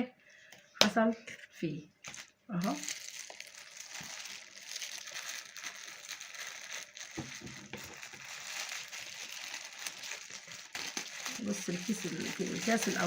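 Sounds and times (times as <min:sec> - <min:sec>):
plastic bags crinkling: 0:02.0 - 0:13.0.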